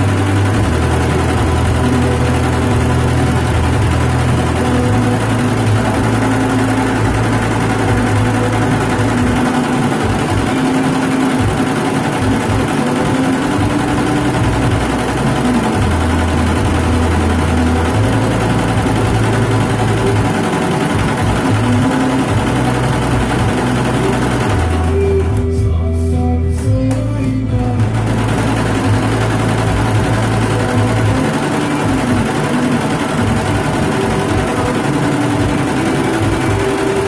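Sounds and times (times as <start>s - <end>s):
embroidery machine clatter: 0.0s - 25.7s, 27.7s - 37.0s
machine low drone: 0.0s - 37.0s.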